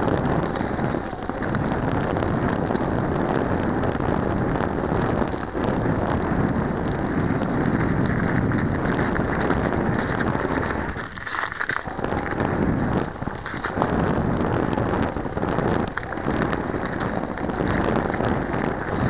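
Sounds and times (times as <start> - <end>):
vehicle crunching over snow: 0.0 - 19.0
wind buffeting microphone: 0.0 - 19.0.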